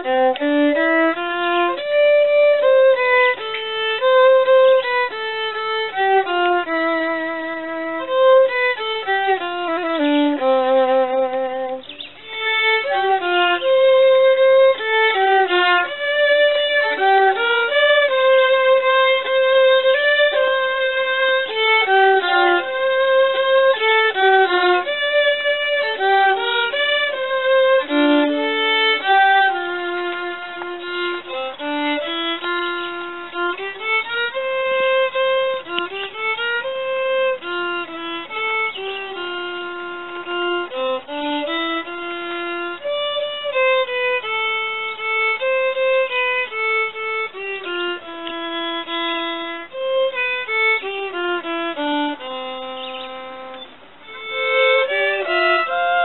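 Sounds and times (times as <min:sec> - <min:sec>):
fiddles playing a folk tune: 0:00.0 - 0:56.0.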